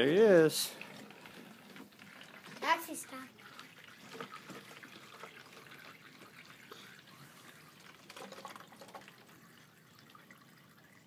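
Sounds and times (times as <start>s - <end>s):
water gurgling through bottles: 0.0s - 11.0s.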